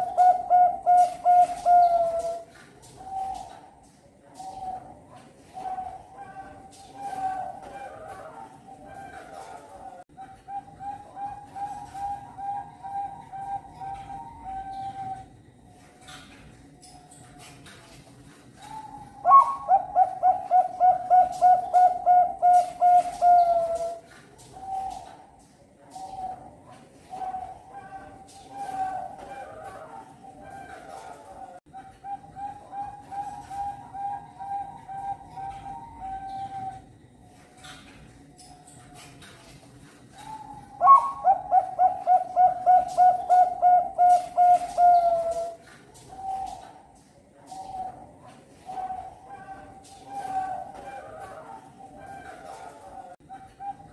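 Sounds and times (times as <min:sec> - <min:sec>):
dove cooing: 0:00.0 - 0:15.8, 0:18.6 - 0:38.1, 0:40.1 - 0:53.9.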